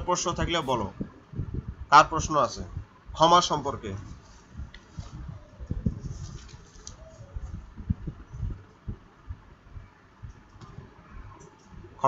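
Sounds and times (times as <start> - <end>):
faint low thumps and rumbles: 0.0 - 12.0.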